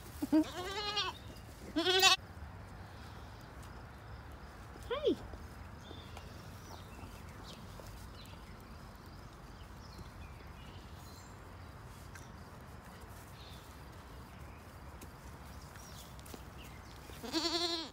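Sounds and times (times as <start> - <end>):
small birds chirping: 0.1 - 17.9.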